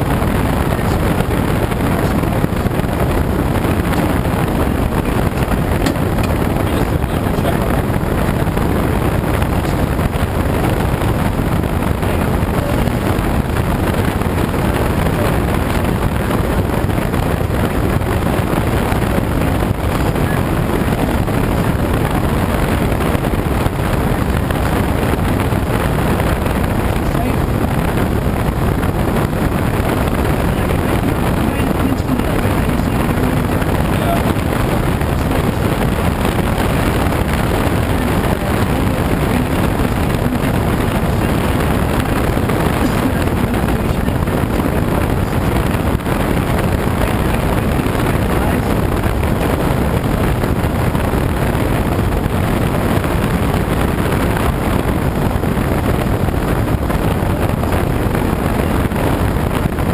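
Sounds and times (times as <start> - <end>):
air rushing over canopy: 0.0 - 59.9.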